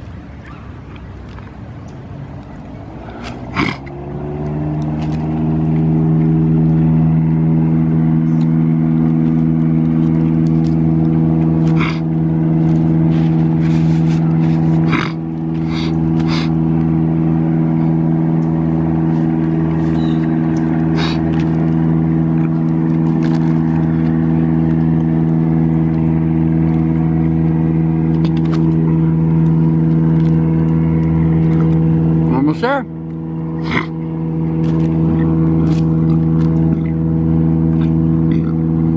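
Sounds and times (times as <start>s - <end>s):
steady motor hum: 0.0s - 38.9s.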